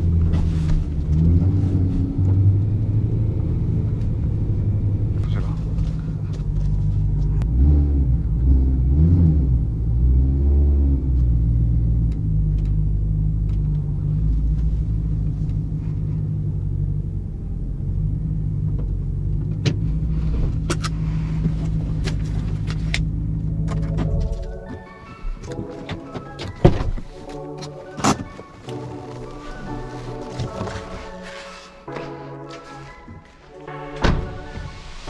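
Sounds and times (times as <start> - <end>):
car engine revving: 0.0 - 32.6.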